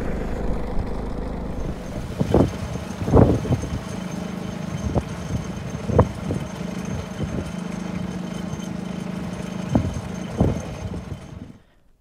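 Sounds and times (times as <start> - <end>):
generator running: 0.0 - 11.9.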